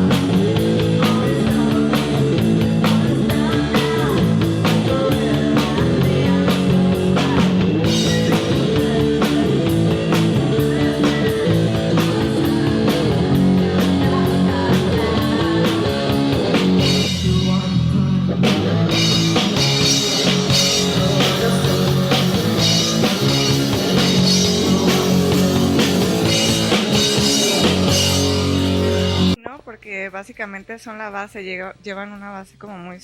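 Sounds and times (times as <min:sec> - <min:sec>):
rock band playing: 0:00.0 - 0:29.4.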